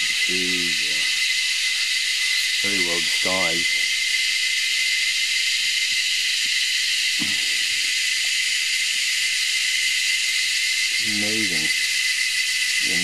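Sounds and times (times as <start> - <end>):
cicadas calling: 0.0 - 13.0.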